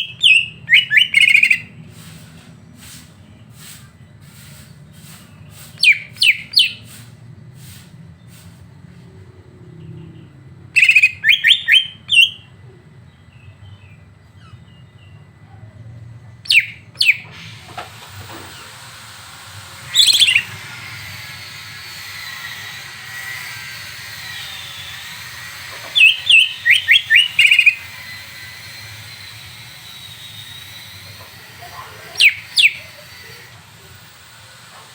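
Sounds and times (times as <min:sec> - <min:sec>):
songbird chirping rapid bursts: 0:00.0 - 0:02.2, 0:02.8 - 0:08.5, 0:09.8 - 0:15.3, 0:16.4 - 0:17.5, 0:19.6 - 0:34.4.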